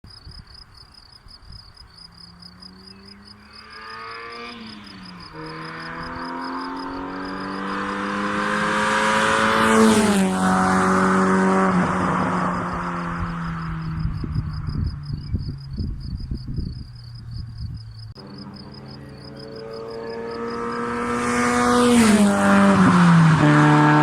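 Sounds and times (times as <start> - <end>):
car engine accelerating past: 2.4 - 15.8, 18.2 - 24.0.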